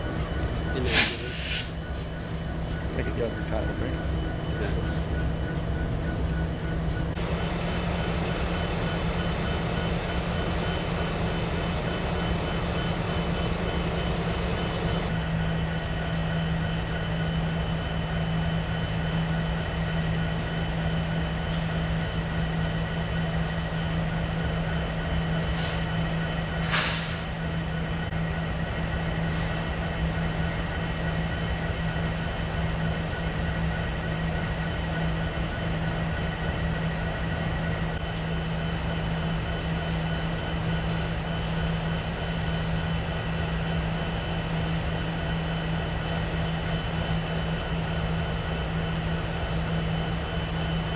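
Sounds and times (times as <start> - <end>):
diesel locomotive droning: 0.0 - 50.9.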